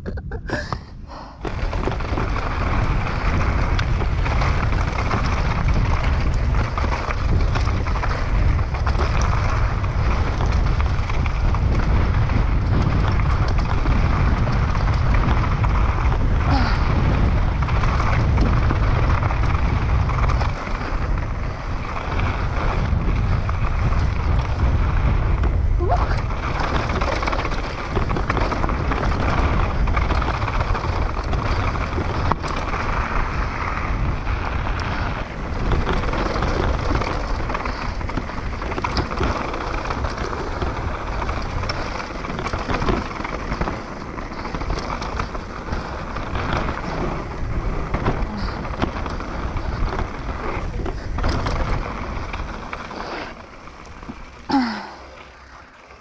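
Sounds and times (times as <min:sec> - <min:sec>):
bike rattling: 0:00.0 - 0:56.0
wind buffeting microphone: 0:00.0 - 0:56.0
tyres rolling over dirt: 0:01.4 - 0:56.0.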